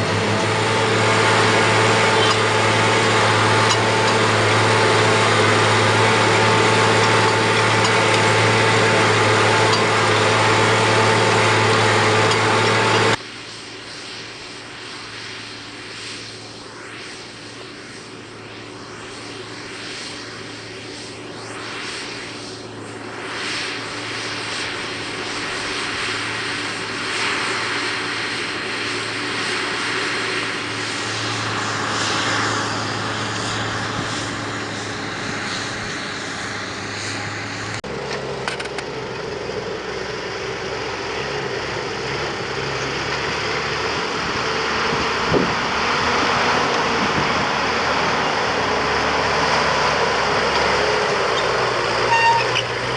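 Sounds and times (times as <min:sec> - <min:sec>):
tractor engine droning: 0:00.0 - 0:52.9.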